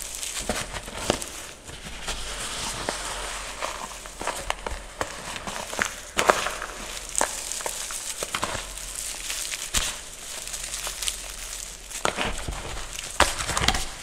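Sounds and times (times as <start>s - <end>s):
hand crushing chalk: 0.0s - 14.0s.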